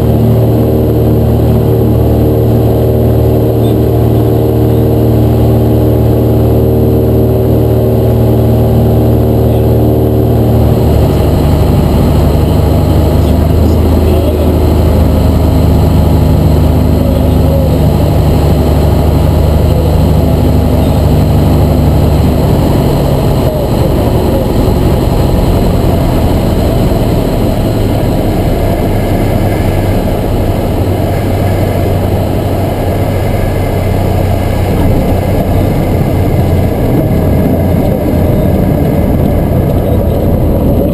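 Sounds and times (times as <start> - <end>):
plane rolling on runway: 0.0 - 40.9
propeller plane engine in cockpit: 0.0 - 40.9.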